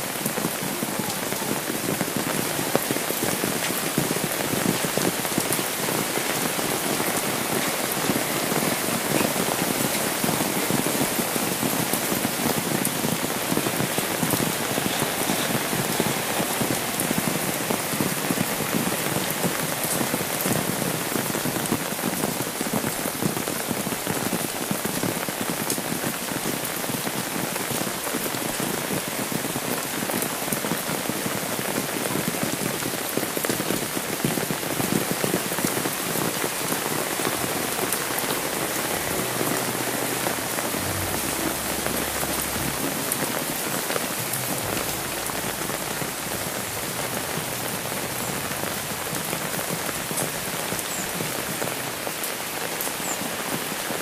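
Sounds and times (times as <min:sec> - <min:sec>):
rain on umbrella: 0:00.0 - 0:54.0.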